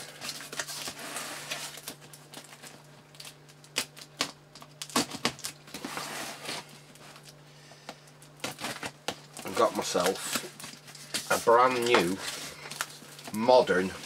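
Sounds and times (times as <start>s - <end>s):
cardboard and tape rustling: 0.0s - 7.4s, 8.4s - 14.0s.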